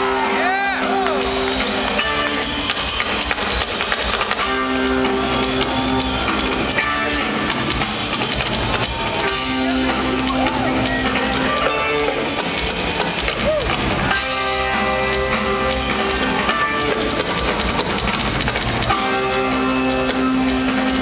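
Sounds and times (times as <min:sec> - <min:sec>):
drum kit: 0:00.0 - 0:21.0
electric guitars: 0:00.0 - 0:21.0
live rock band playing: 0:00.0 - 0:21.0.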